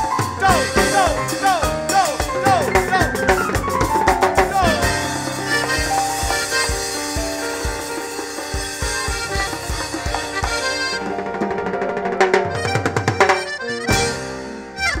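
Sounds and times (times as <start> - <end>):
drum fill: 0.0 - 15.0
latin dance band music: 0.0 - 15.0.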